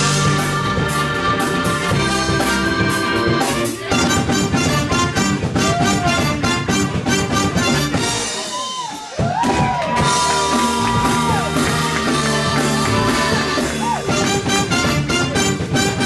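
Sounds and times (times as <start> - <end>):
rock band with horn section: 0.0 - 16.0.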